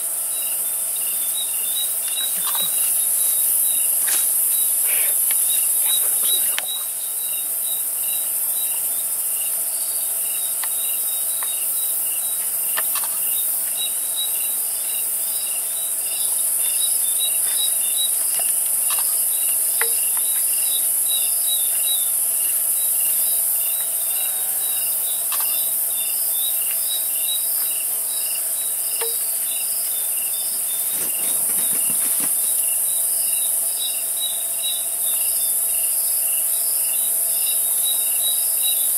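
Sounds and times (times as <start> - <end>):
crickets chirring: 0.0 - 38.9
faint steady hum: 0.0 - 38.9.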